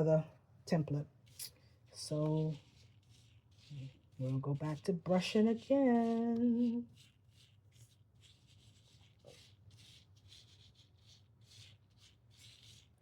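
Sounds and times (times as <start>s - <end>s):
brush swishing: 1.2s - 13.0s.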